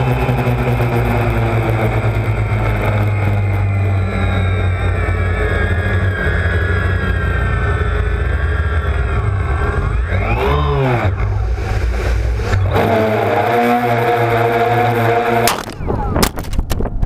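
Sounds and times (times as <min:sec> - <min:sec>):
drone motors whining: 0:00.0 - 0:16.8
wind rumbling on microphone: 0:00.0 - 0:17.0.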